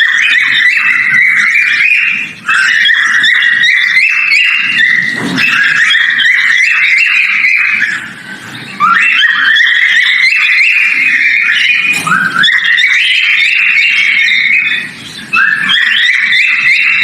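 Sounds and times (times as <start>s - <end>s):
cockatiel whistling: 0.0s - 17.0s.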